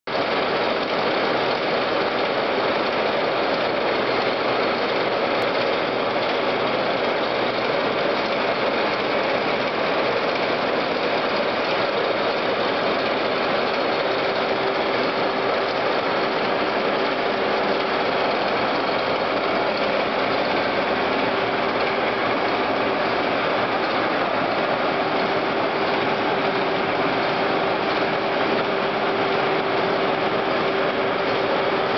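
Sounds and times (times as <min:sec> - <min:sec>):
heavy shop machinery humming: 0:00.1 - 0:31.9.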